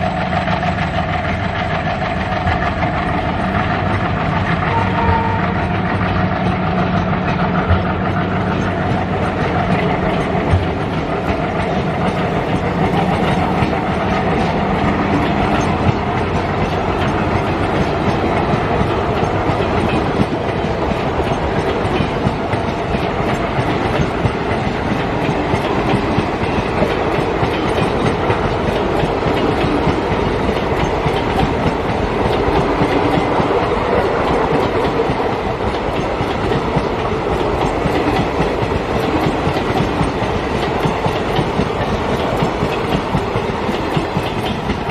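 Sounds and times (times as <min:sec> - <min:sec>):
train wheels clacking over rail joints: 0:00.0 - 0:44.9.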